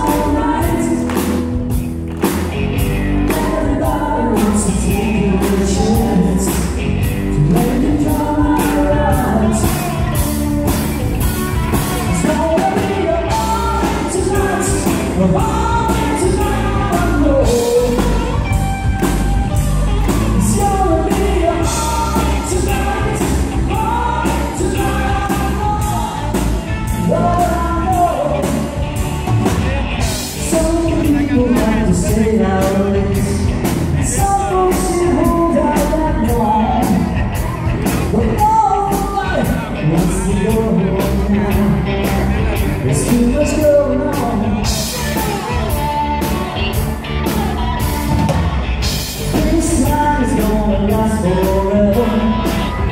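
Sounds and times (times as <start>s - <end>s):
country band playing: 0.0s - 52.9s
man singing lead: 0.0s - 52.9s.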